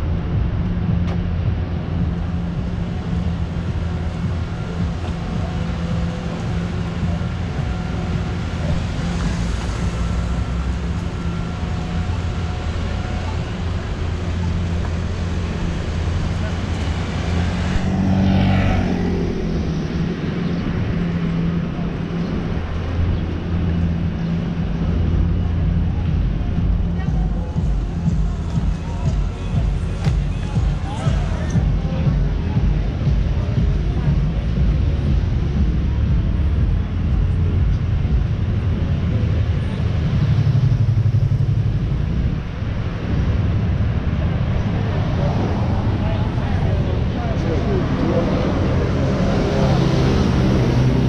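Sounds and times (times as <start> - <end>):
low engine hum: 0.0 - 51.0
car passing: 1.4 - 51.0.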